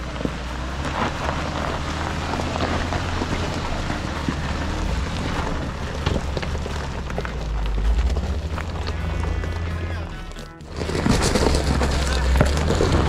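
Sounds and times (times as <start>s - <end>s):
tyre and wind noise: 0.0s - 10.0s, 10.6s - 13.0s
vehicle engine drone: 0.0s - 13.0s.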